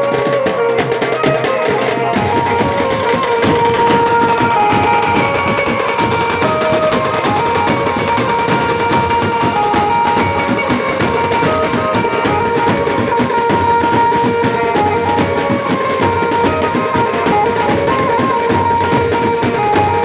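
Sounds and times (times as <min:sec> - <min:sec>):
held melody line: 0:00.0 - 0:20.0.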